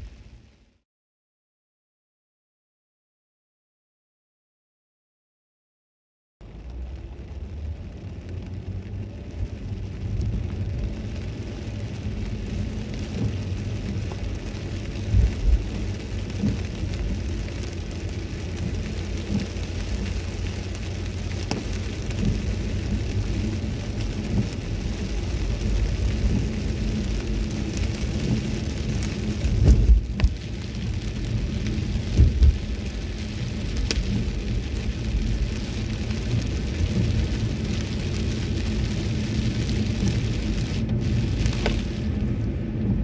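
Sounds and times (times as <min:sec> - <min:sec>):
tyres hissing on wet road: 0:06.5 - 0:43.0.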